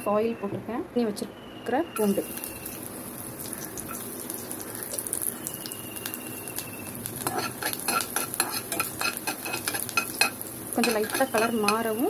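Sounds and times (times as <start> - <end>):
garlic sizzling in oil: 2.0 - 12.0.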